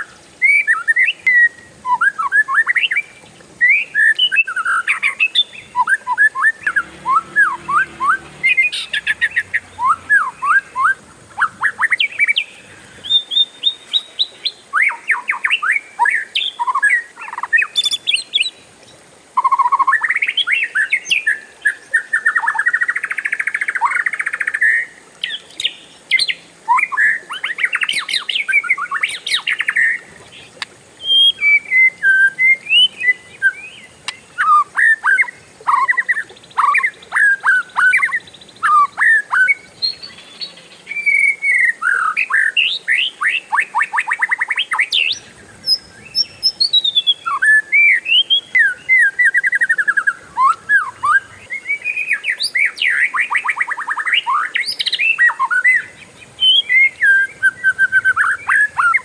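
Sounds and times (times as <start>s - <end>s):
bird singing: 0.0s - 18.6s, 19.4s - 59.0s.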